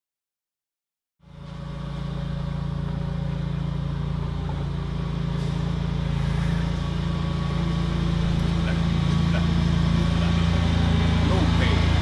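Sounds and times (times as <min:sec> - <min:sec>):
engine idling: 0:01.2 - 0:12.0.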